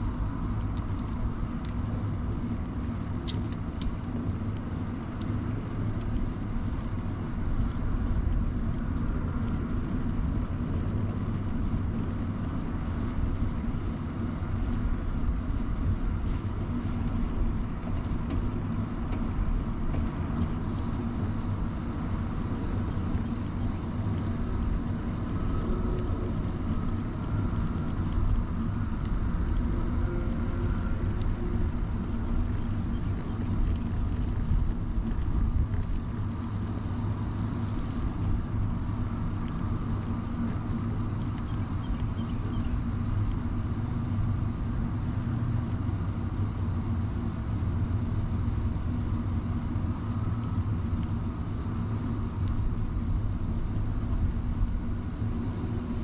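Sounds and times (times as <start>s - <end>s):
wind and tyre rumble: 0.0s - 56.0s.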